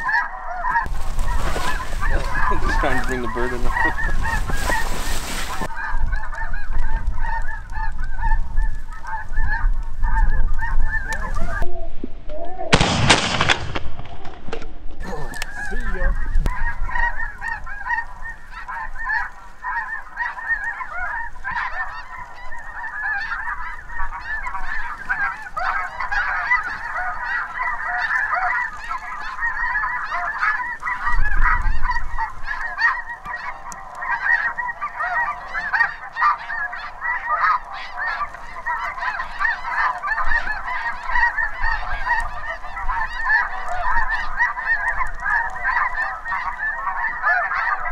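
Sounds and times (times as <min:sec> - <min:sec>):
geese honking: 0:00.0 - 0:11.9, 0:15.0 - 0:47.9.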